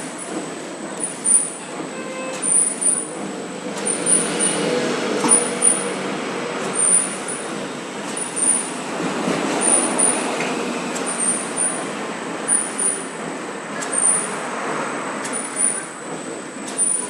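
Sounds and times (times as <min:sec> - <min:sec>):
machine pulse: 0:00.0 - 0:14.5, 0:15.2 - 0:17.0.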